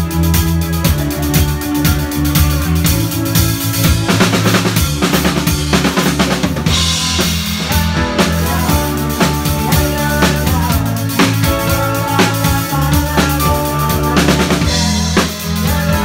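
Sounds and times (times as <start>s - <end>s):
bass drum and snare hits: 0.0s - 16.0s
live rock band playing: 0.0s - 16.0s.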